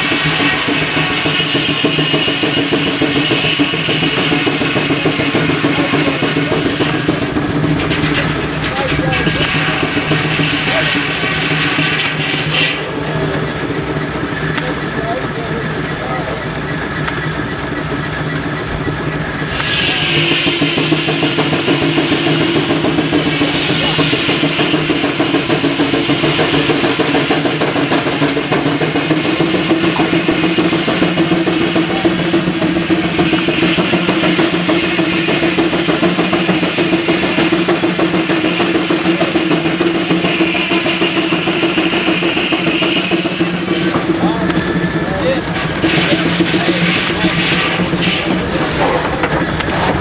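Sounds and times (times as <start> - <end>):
high machine whine: 0.0 - 50.0
sawmill engine drone: 0.0 - 50.0.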